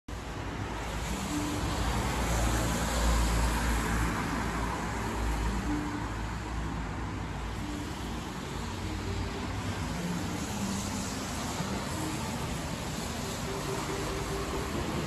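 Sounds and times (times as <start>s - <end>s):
car passing: 0.2s - 15.0s
faint muffled marimba notes: 0.4s - 15.0s.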